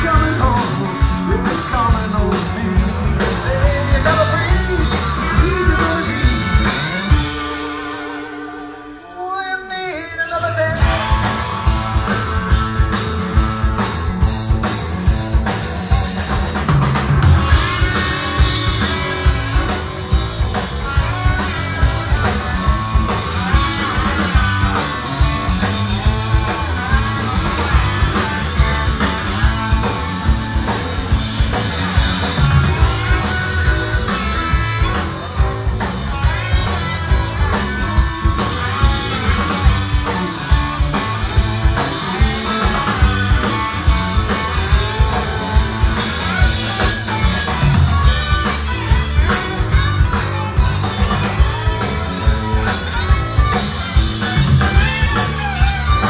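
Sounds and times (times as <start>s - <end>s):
drum kit beat: 0.0s - 9.0s, 10.8s - 56.0s
bass guitar: 0.0s - 56.0s
electric guitars: 0.0s - 56.0s.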